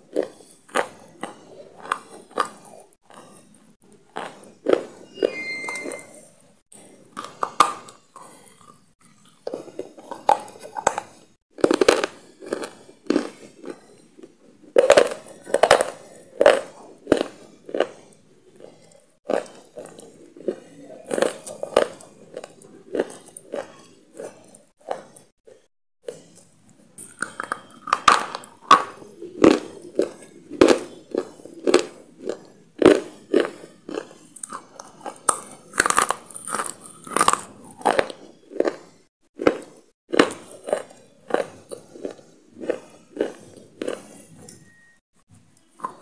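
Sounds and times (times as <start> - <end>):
crunchy chewing: 0.0 - 5.0, 7.2 - 44.5.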